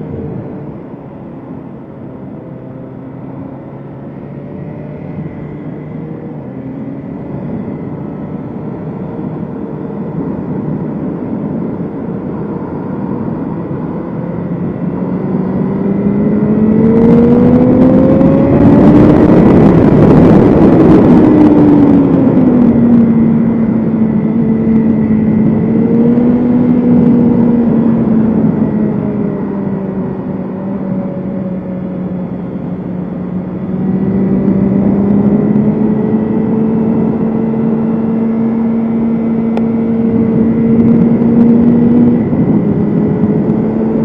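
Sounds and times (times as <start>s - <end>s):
motorcycle engine accelerating: 0.0s - 44.0s
rush of wind: 0.0s - 44.0s.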